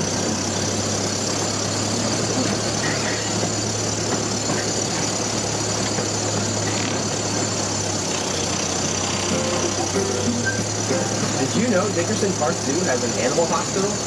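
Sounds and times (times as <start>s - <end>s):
train engine running: 0.0s - 14.0s.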